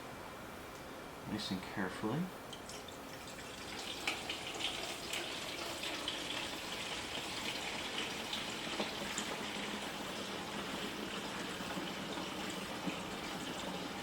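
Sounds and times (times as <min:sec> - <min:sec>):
water pouring into humidifier: 0:02.5 - 0:14.0.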